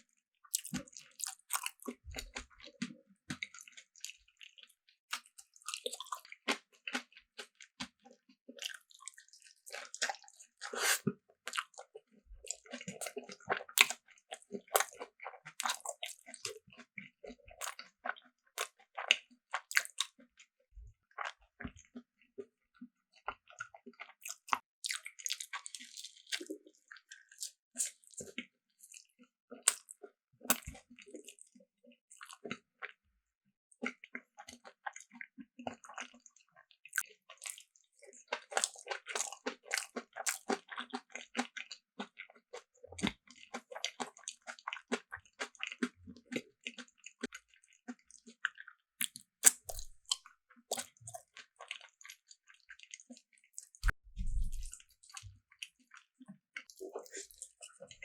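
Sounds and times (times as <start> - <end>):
person chewing food: 0.5 - 20.5, 21.1 - 33.0, 33.7 - 58.0.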